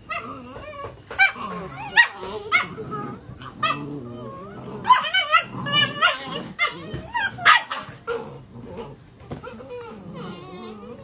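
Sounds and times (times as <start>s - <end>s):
puppies yipping and whining: 0.0s - 8.4s, 9.2s - 11.0s.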